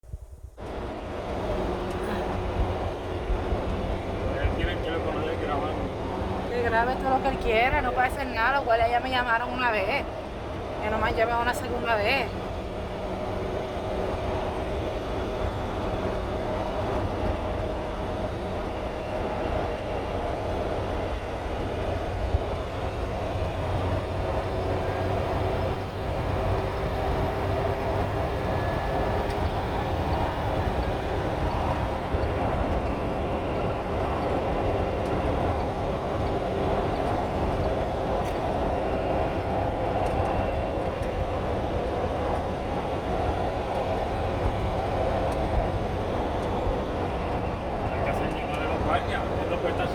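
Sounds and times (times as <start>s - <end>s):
low road rumble: 0.0s - 49.9s
truck engine drone: 0.5s - 49.9s.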